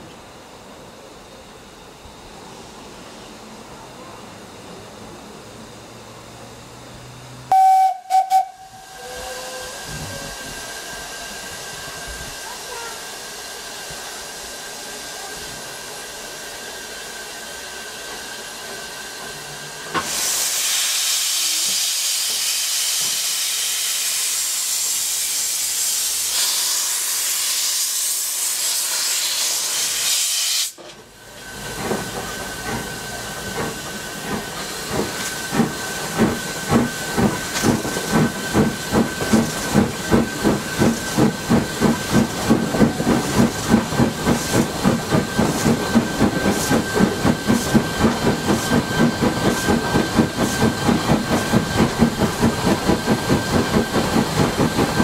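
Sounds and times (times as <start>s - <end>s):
steam locomotive chuffing: 0.6s - 55.0s
steam hissing: 7.5s - 55.0s
loud rush of escaping steam: 7.6s - 55.0s.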